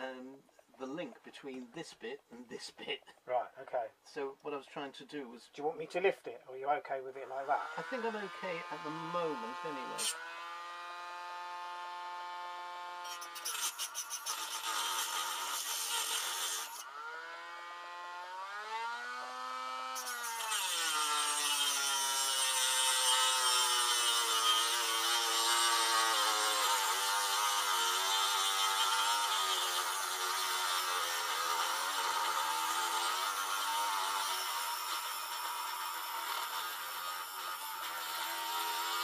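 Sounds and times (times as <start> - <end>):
rotary tool grinding metal: 7.2 - 39.0.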